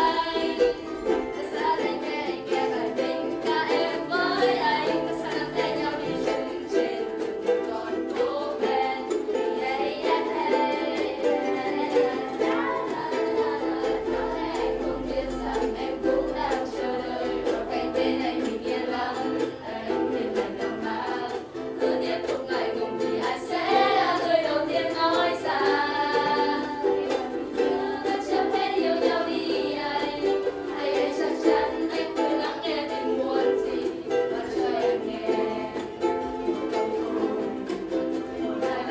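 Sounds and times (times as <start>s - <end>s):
ukuleles strumming: 0.0s - 38.9s.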